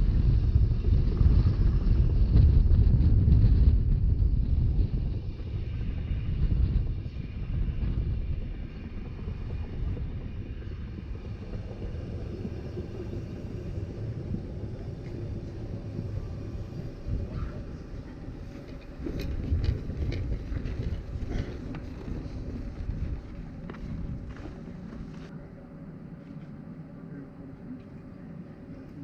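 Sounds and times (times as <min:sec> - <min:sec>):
train rumbling on track: 0:00.0 - 0:26.0
wind buffeting microphone: 0:00.0 - 0:29.0.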